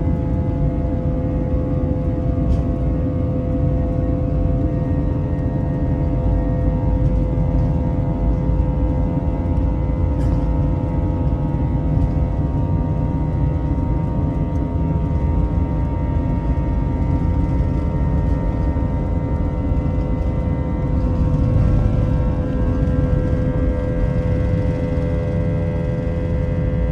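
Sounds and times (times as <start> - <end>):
jet engine low rumble: 0.0 - 26.9
steady whining tones: 0.0 - 26.9.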